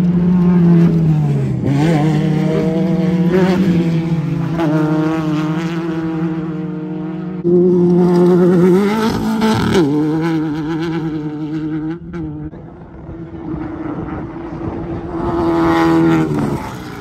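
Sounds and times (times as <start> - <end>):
loud engine revving: 0.0 - 12.6, 13.4 - 17.0
race car engines revving: 0.0 - 17.0.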